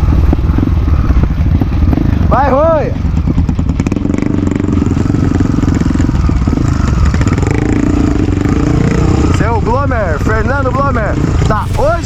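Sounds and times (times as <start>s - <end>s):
motorcycle engine running: 0.0s - 12.0s
rattling burst: 0.0s - 12.0s.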